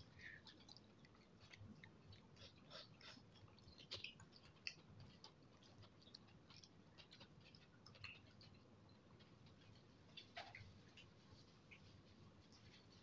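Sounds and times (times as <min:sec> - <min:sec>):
person chewing noodles: 0:00.0 - 0:12.9.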